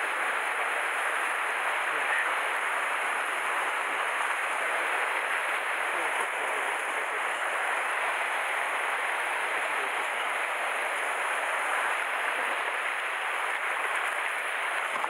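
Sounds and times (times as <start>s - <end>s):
waves surging over rocky shore: 0.0s - 15.0s.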